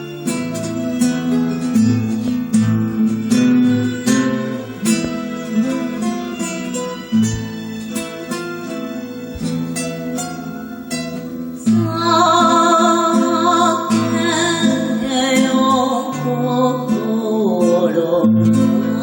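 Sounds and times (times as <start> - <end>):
acoustic guitar: 0.0 - 19.0
wavering melody with vibrato: 0.0 - 19.0.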